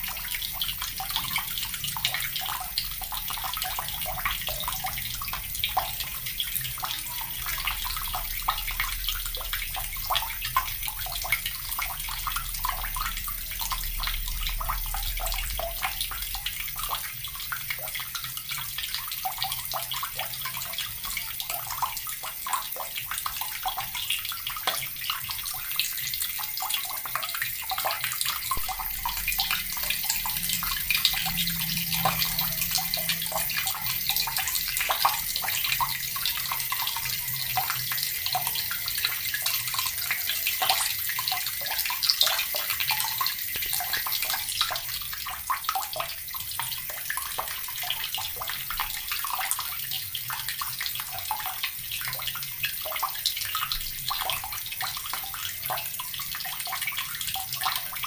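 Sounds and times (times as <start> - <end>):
tap water running into bucket: 0.0 - 58.0.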